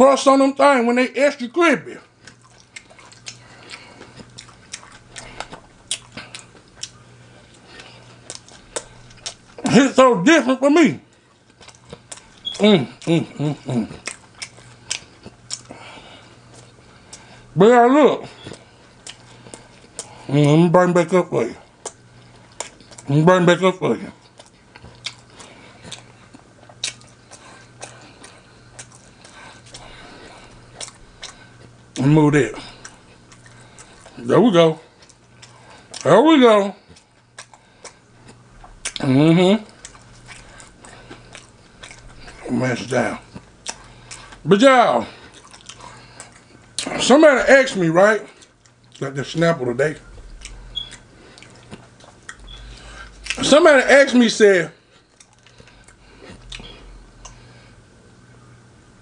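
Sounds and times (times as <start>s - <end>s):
steady low hum: 0.0s - 59.0s
person chewing crispy chicken: 2.0s - 9.8s, 10.6s - 23.3s, 23.9s - 57.8s.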